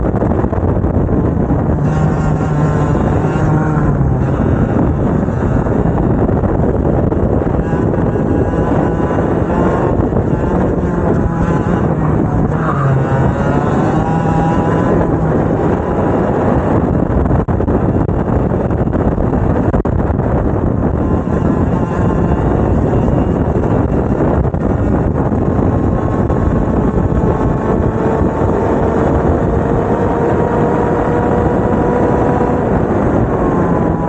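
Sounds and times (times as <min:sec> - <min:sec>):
two-stroke kart engines revving: 0:00.9 - 0:17.0, 0:20.3 - 0:34.0.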